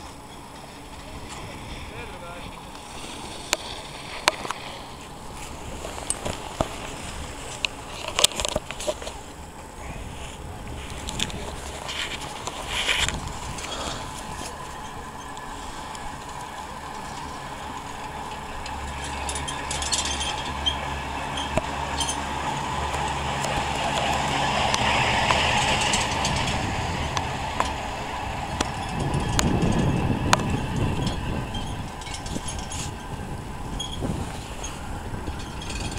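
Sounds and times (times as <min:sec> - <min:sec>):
skis scraping over snow: 0:00.0 - 0:35.9.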